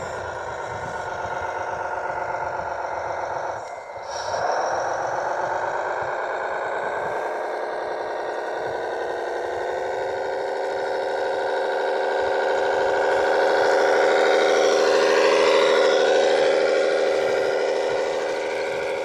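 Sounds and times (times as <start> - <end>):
model machine motor whirring: 0.0 - 19.0.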